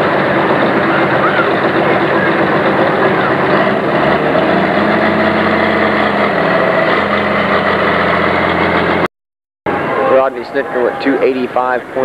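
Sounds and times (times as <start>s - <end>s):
diesel engine idling: 0.0s - 9.1s, 9.7s - 12.0s.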